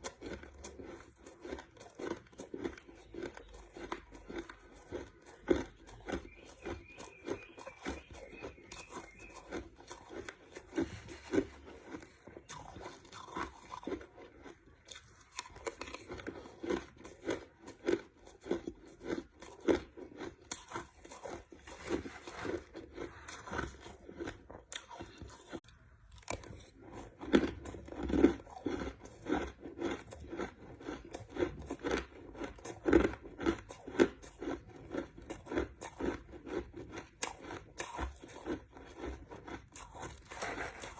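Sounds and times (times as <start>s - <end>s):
crunching ice being chewed: 0.0s - 40.9s.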